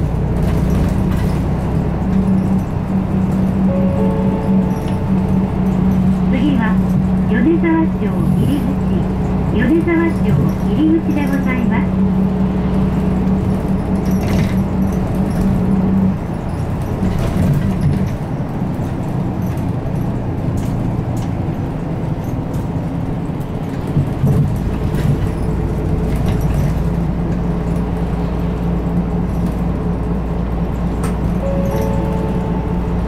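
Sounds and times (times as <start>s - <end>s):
light cabin rattles: 0.0s - 11.9s, 12.6s - 33.0s
bus diesel engine droning: 0.0s - 33.0s
road and tyre noise: 0.0s - 33.0s.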